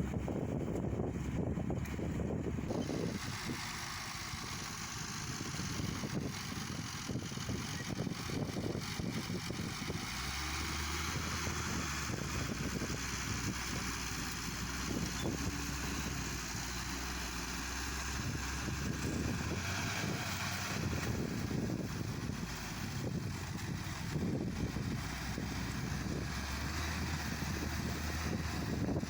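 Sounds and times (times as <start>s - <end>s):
tiller engine running: 2.7s - 29.0s.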